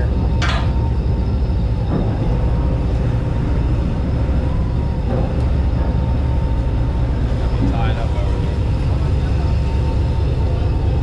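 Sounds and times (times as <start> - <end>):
boat engines rumbling: 0.0 - 11.0.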